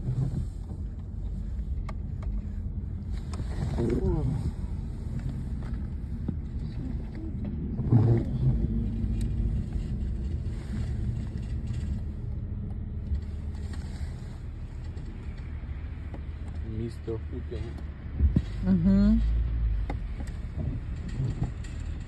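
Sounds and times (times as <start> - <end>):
vehicle low rumble: 0.0 - 22.0.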